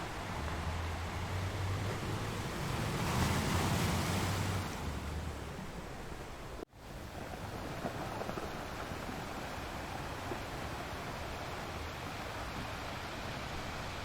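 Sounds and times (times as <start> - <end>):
waves breaking and washing: 0.0 - 14.0.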